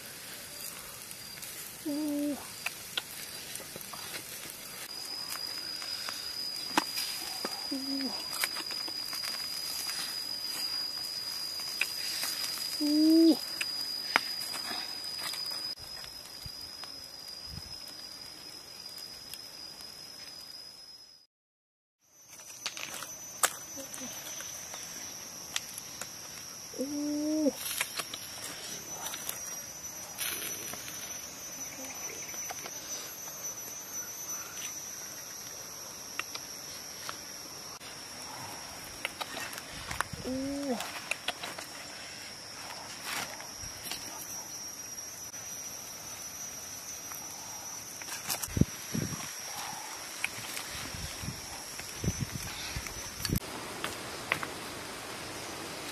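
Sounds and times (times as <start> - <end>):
high insect trill: 0.0 - 21.3, 22.0 - 55.9.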